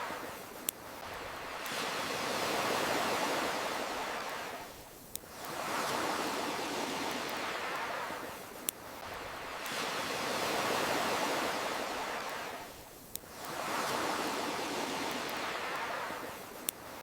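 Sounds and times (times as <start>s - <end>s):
campfire crackling: 0.0s - 17.0s
ocean waves washing in: 0.0s - 17.0s.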